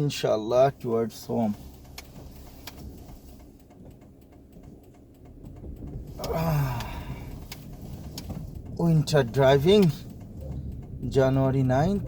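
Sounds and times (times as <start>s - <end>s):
car rumbling on snowy road: 0.0s - 12.0s
faint clicks: 1.2s - 12.0s.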